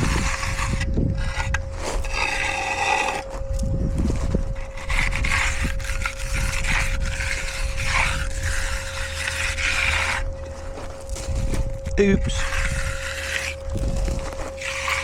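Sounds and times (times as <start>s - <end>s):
steel tool scraping wet concrete: 0.0s - 15.0s.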